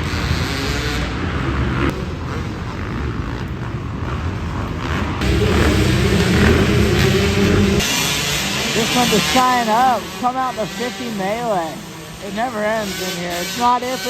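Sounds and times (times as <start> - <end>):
pit bike engines running: 0.0 - 14.0.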